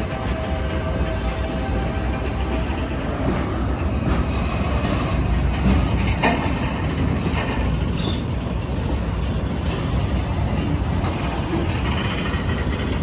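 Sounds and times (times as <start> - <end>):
freight train rumbling: 0.0 - 13.0
wheels clanking on rails: 0.0 - 13.0.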